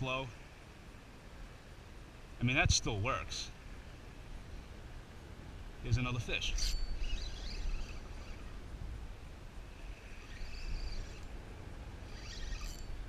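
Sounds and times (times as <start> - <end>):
wind rumbling on microphone: 2.4 - 13.0.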